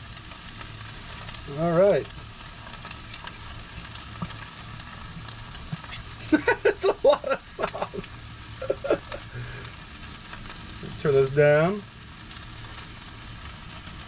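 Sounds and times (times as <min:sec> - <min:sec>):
chicken sizzling in a frying pan: 0:00.0 - 0:14.0
sauce pouring with sputters: 0:00.0 - 0:14.0.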